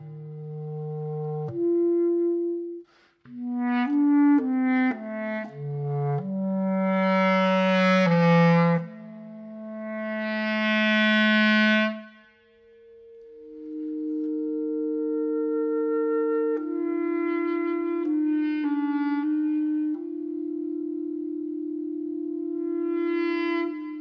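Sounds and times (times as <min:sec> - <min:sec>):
clarinet-like wind melody: 0:00.0 - 0:24.0.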